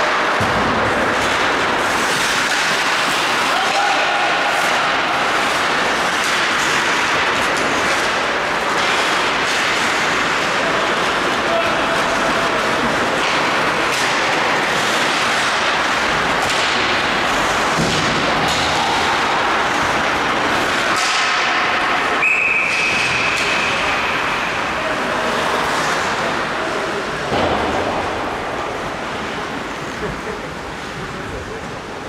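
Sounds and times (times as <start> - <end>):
skates scraping ice: 0.0 - 32.0.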